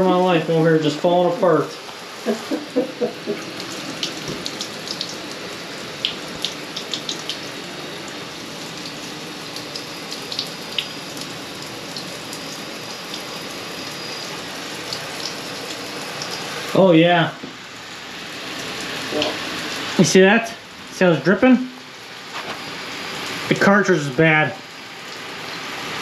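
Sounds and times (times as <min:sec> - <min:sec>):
drips and splashes: 0:00.0 - 0:26.0
shower water hissing: 0:00.0 - 0:26.0.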